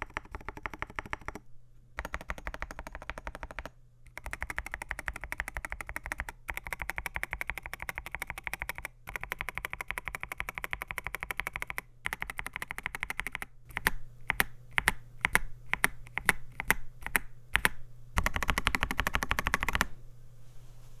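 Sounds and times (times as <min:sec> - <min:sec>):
typing on mechanical keyboard: 0:00.0 - 0:01.4, 0:02.0 - 0:19.9.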